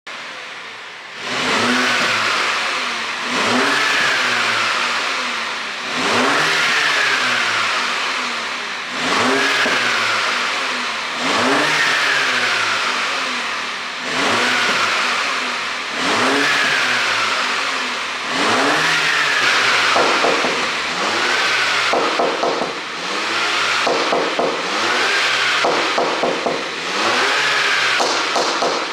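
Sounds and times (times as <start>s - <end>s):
car engine revving: 0.1s - 28.9s
exhaust crackling: 0.2s - 28.9s.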